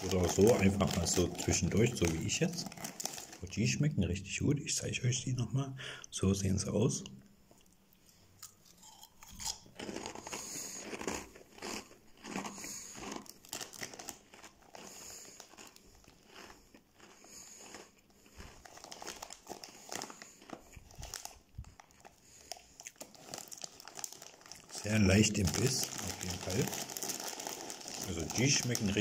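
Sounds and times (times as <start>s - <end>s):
person chewing crunchy snacks: 0.0s - 3.4s, 7.5s - 29.0s.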